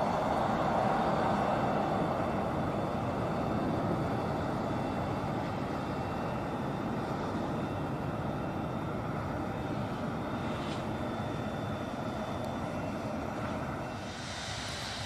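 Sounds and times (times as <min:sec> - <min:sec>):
high-pitched engine whine: 0:00.0 - 0:15.0
jet engines rumbling: 0:00.0 - 0:15.0.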